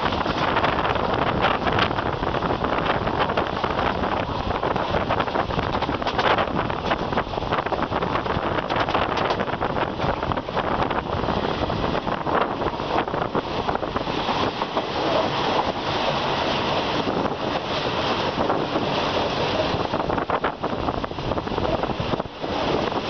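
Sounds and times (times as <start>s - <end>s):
train rumbling on tracks: 0.0s - 23.0s
wheels clicking on rails: 0.0s - 23.0s
wind buffeting microphone: 0.0s - 23.0s.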